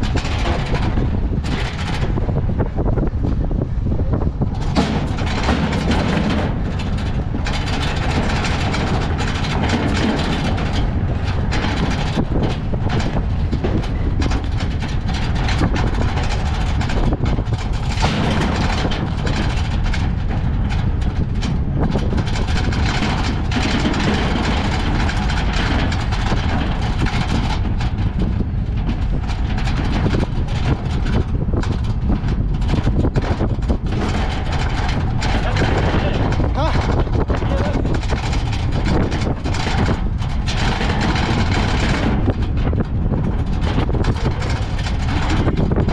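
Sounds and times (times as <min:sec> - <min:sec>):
cart wheels rumbling on pavement: 0:00.0 - 0:45.9
carts clattering and rattling: 0:00.0 - 0:45.9.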